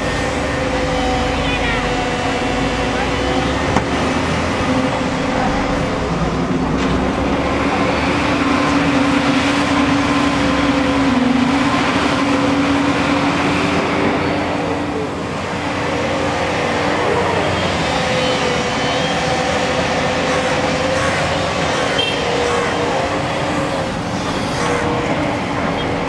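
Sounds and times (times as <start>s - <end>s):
excavator diesel engine droning: 0.0s - 26.0s.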